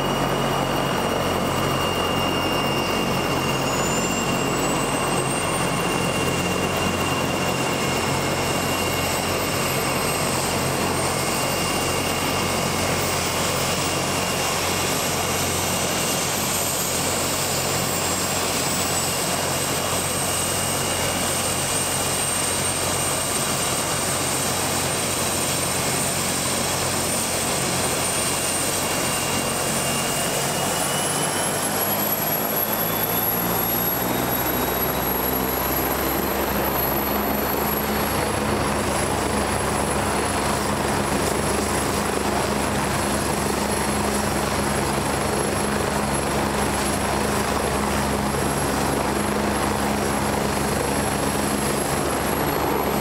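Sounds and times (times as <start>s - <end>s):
helicopter turbine whine: 0.0s - 53.0s.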